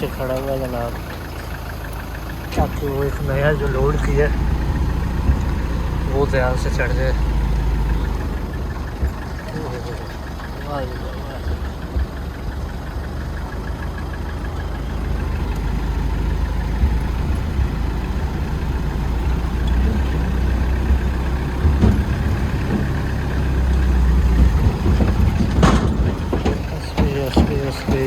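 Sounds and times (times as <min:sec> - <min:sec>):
truck engine rumble from cab: 0:00.0 - 0:28.0.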